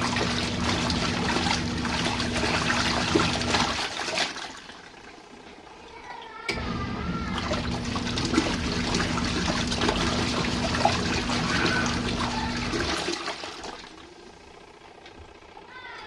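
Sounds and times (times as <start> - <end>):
water churning in tub: 0.0 - 15.9
washing machine motor hum: 0.0 - 16.0.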